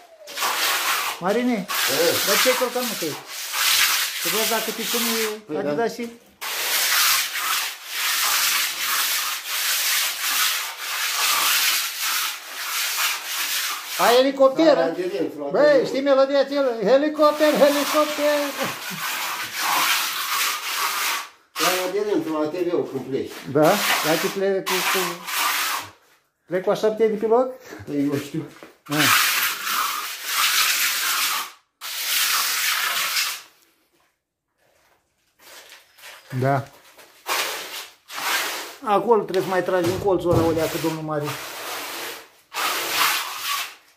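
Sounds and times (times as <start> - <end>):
trowel scraping wet concrete: 0.1 - 5.7, 6.4 - 15.9, 17.0 - 26.0, 28.1 - 33.4, 35.4 - 43.9.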